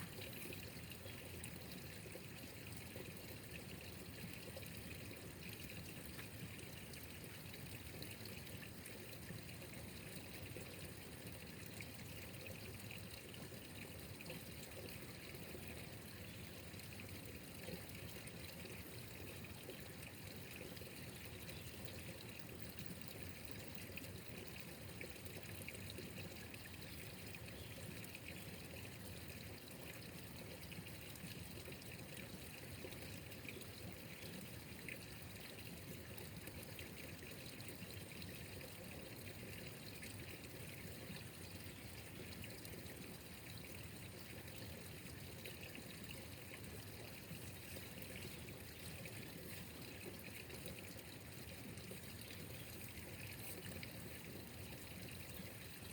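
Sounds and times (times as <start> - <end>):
running water trickling: 0.0 - 55.9.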